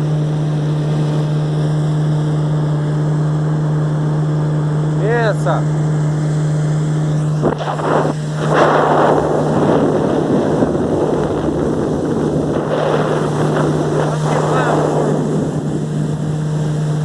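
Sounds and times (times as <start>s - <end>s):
motorboat engine humming: 0.0s - 17.0s
rush of water and wind: 0.0s - 17.0s.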